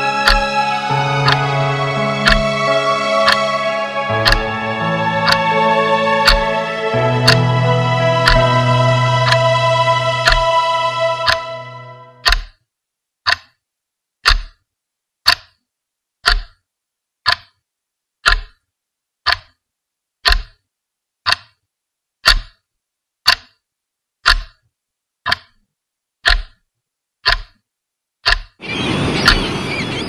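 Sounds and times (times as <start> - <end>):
clock ticking: 0.0 - 11.6, 12.2 - 13.6, 14.2 - 23.6, 24.2 - 27.6, 28.2 - 28.6.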